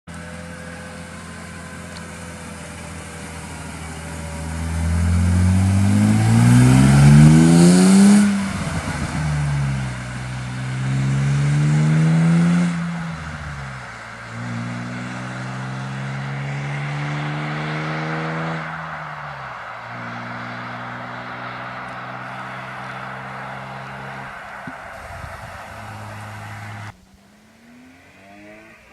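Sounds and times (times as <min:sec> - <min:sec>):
car engine revving: 0:00.1 - 0:28.9.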